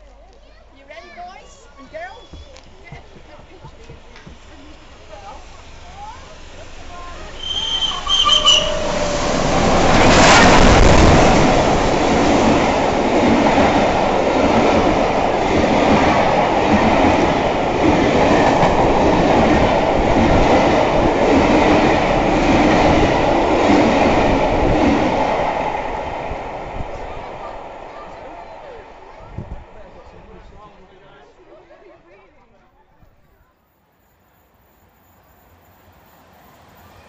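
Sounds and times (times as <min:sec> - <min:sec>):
train coaches rumbling: 0:00.0 - 0:32.0, 0:34.8 - 0:37.0
steam locomotive passing: 0:00.5 - 0:31.7, 0:33.0 - 0:37.0.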